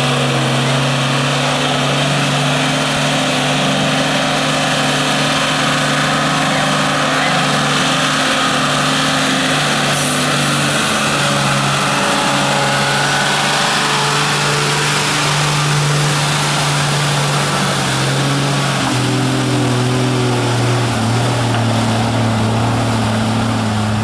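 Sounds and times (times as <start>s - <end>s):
diesel engine running: 0.0s - 24.0s
truck churning through mud: 0.0s - 24.0s.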